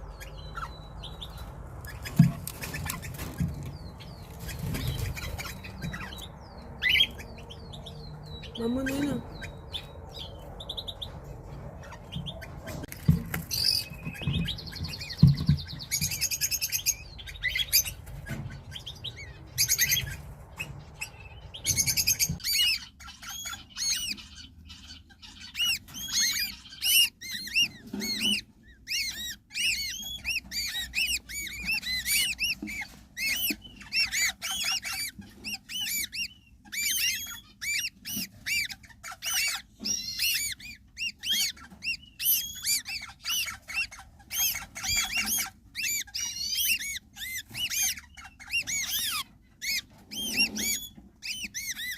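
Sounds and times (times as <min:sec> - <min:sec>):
parrots squawking: 0:00.0 - 0:51.9.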